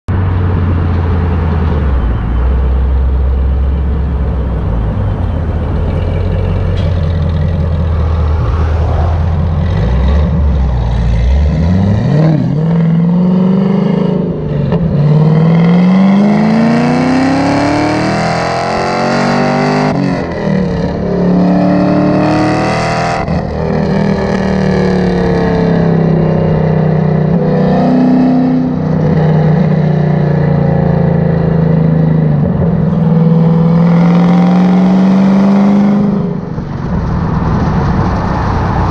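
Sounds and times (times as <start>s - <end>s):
car engine rumbling and accelerating: 0.1s - 38.9s.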